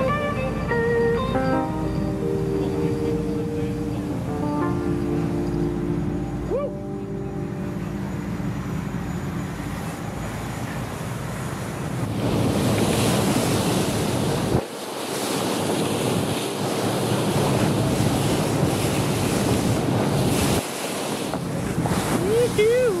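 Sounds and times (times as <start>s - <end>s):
waves washing: 0.0s - 23.0s
wind buffeting microphone: 1.8s - 23.0s.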